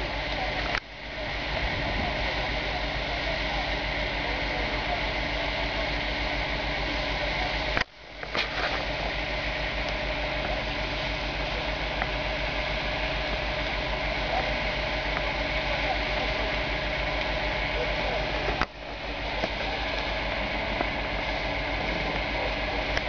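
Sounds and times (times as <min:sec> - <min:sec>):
diesel engine fast idle: 0:00.0 - 0:23.0
steady hum: 0:00.0 - 0:23.0.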